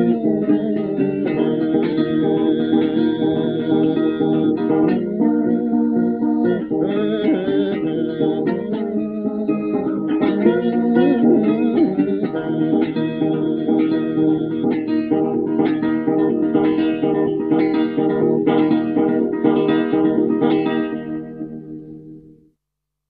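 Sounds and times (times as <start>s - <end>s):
blues guitar playing: 0.0s - 22.5s.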